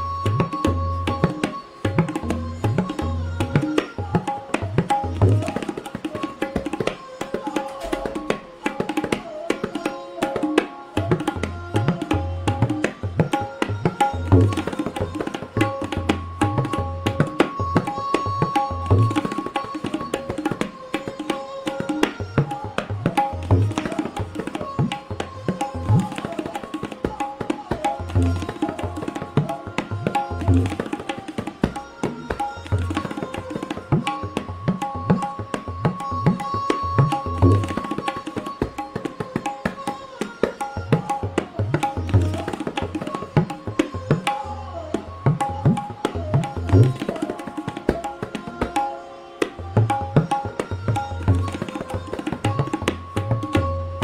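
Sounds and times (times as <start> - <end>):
tabla playing fast: 0.0 - 54.0.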